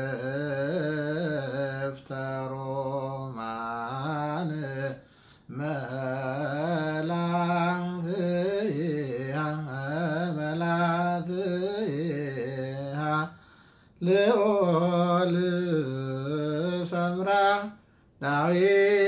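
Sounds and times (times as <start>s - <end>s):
man singing chant: 0.0s - 19.0s.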